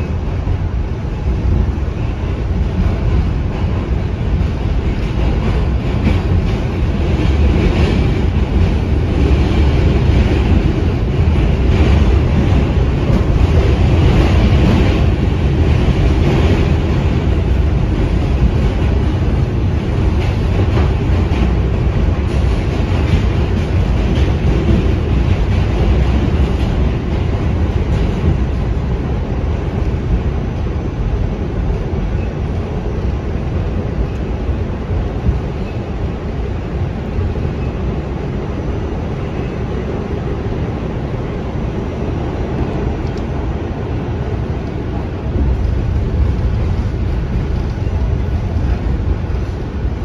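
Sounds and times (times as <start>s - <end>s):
subway train wheels running: 0.0s - 50.0s.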